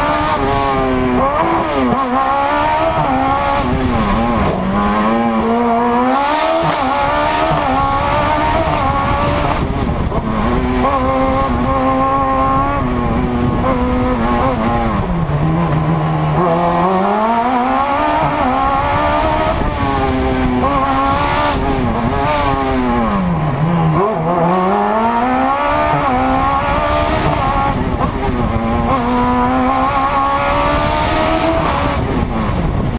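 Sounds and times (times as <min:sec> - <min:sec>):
race car engine revving: 0:00.0 - 0:32.9.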